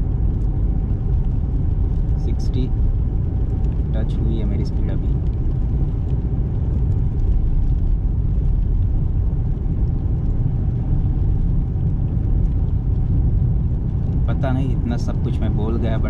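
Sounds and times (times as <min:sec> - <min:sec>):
car engine running: 0:00.0 - 0:16.0
tyre and road noise: 0:00.0 - 0:16.0.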